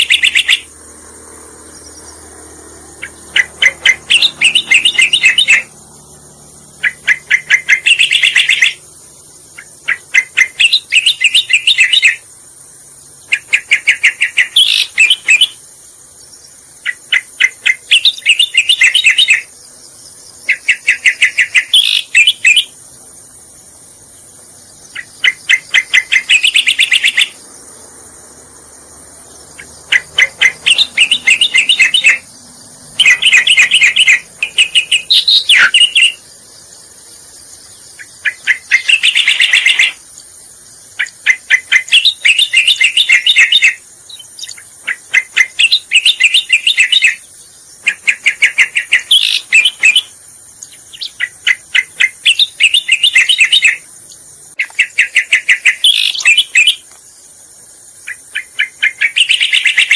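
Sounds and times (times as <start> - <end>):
bird chattering song: 0.0 - 59.9
steady high-pitched hiss: 0.0 - 59.9.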